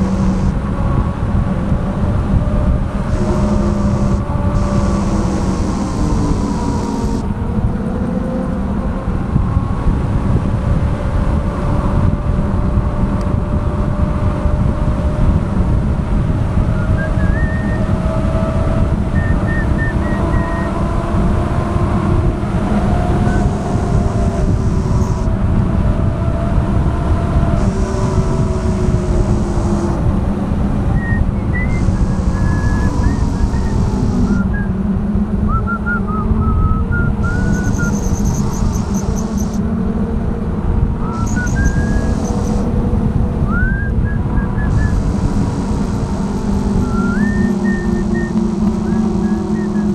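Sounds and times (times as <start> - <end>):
road rumble: 0.0 - 49.9
vehicle engine running: 0.0 - 49.9.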